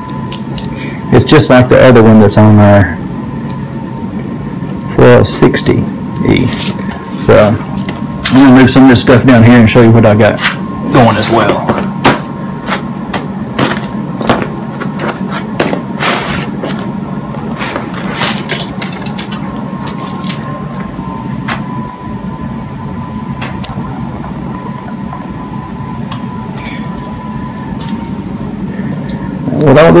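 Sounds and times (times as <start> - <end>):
faint high whine: 0.0 - 30.0
low hum: 0.0 - 30.0.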